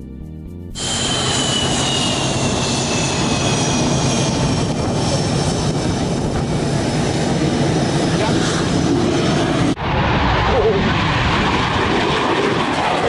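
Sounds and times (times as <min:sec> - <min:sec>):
jet engine whine: 0:00.8 - 0:13.0.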